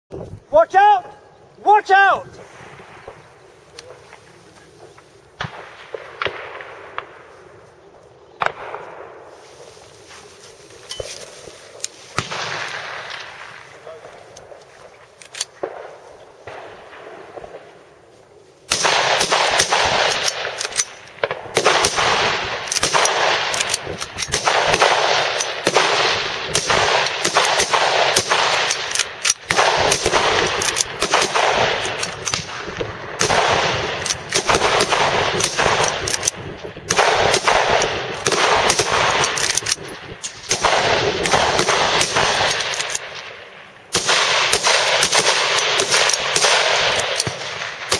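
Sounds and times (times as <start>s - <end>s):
rifles firing with echo: 0.6s - 47.9s.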